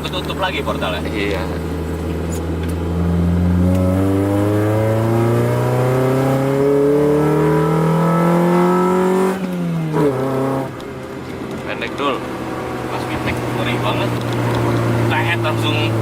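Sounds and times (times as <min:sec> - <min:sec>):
car engine revving under acceleration: 0:00.0 - 0:16.0.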